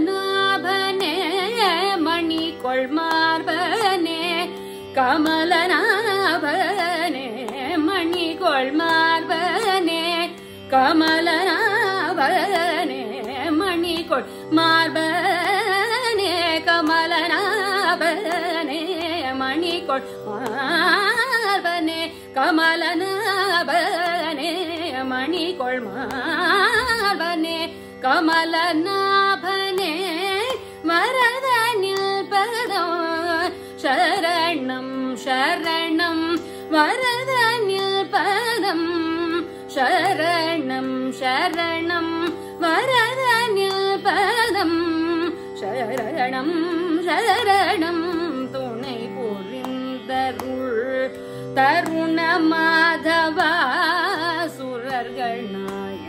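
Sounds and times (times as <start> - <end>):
woman singing classical music: 0.0 - 56.0.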